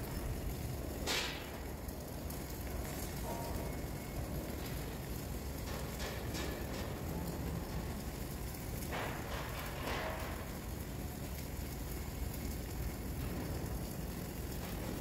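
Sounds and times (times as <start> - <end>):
welding arc crackling: 0.0 - 15.0.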